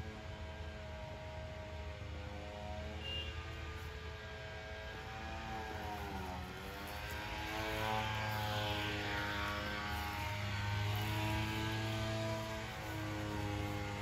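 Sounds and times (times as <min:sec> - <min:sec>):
propeller airplane flying over: 0:00.0 - 0:14.0.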